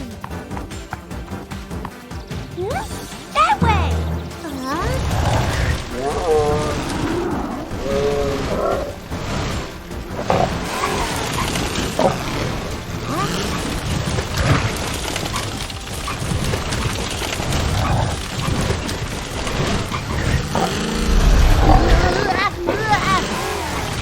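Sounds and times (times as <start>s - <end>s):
cartoon action music: 0.0s - 24.0s.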